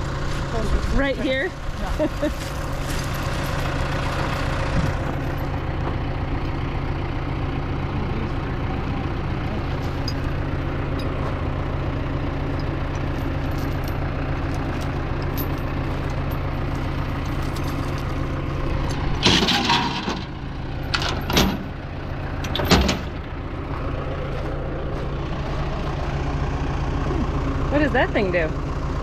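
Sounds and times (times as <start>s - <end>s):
farm machinery engine running: 0.0s - 29.0s.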